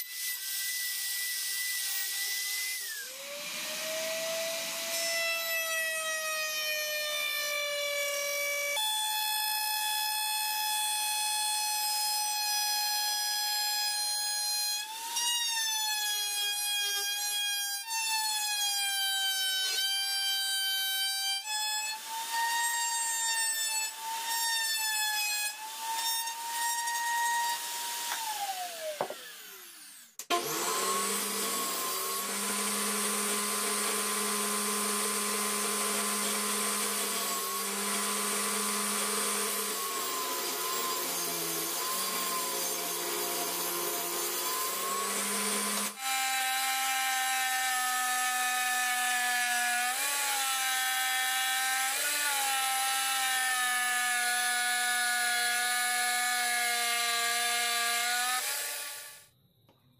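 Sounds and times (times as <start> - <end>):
power saw cutting wood: 0.0 - 15.2, 15.9 - 59.2.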